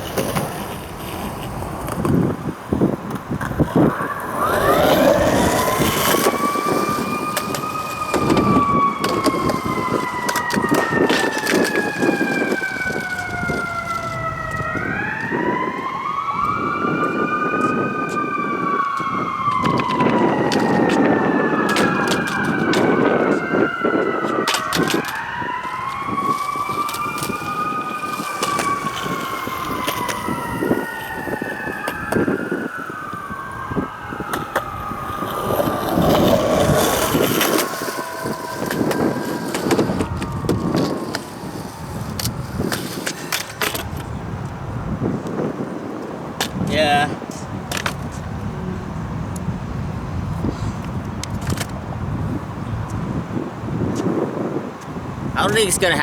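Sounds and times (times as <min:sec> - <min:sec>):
rolling rumble: 0:00.0 - 0:55.8
emergency sirens wailing: 0:00.0 - 0:56.0.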